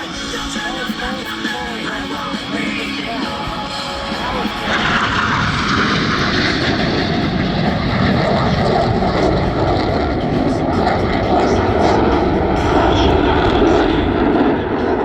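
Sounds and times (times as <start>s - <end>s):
jets flying by: 0.0s - 15.0s.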